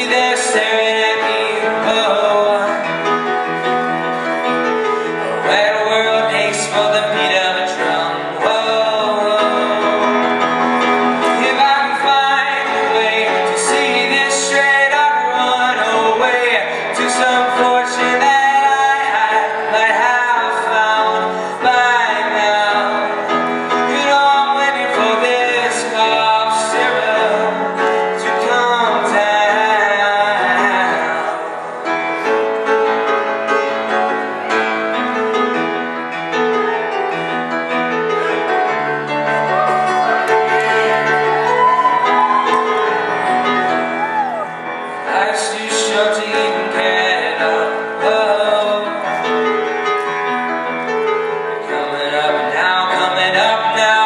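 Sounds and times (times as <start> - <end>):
young man singing: 0.0 - 37.0, 37.9 - 54.0
piano chords: 0.0 - 54.0.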